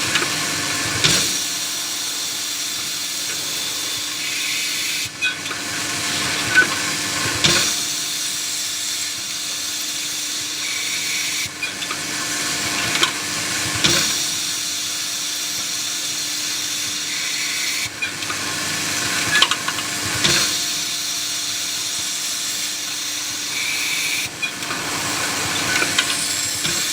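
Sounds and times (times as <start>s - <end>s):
machine hum and hiss: 0.0s - 26.9s.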